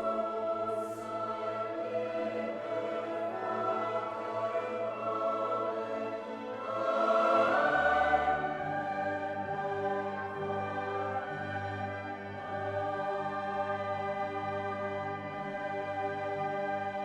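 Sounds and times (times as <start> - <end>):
choir voices over orchestra: 0.0 - 17.0.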